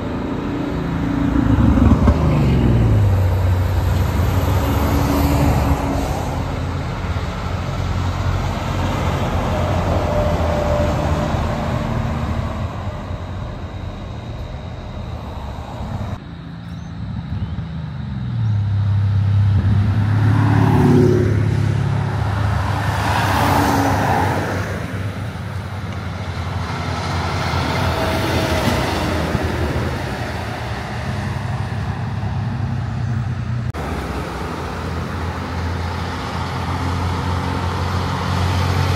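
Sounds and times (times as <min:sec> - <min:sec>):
heavy trucks passing: 0:00.0 - 0:38.9.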